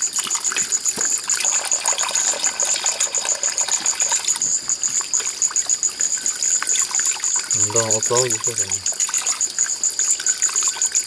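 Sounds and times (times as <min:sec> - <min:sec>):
insects trilling: 0:00.0 - 0:11.0
high insect buzz: 0:01.3 - 0:10.9.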